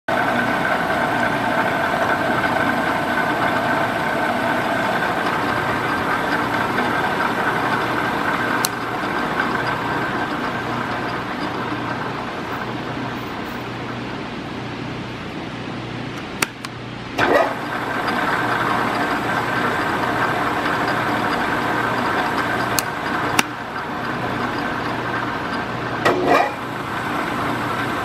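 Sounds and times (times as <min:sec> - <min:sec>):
drill press whining: 0:00.1 - 0:28.0.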